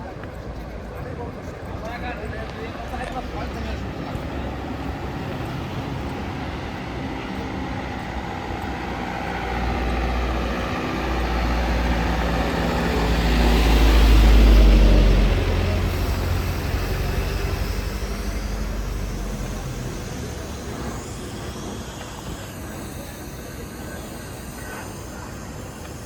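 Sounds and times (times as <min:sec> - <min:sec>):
street traffic: 0:00.0 - 0:26.0
heavy vehicle rumbling past: 0:01.8 - 0:26.0.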